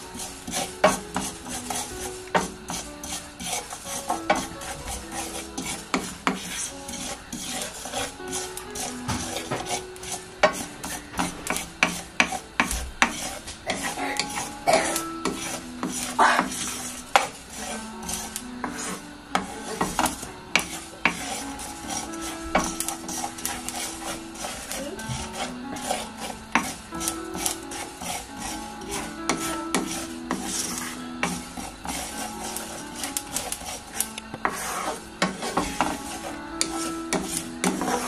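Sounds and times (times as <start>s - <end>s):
seeds scraping in a dry pan: 0.0s - 38.0s.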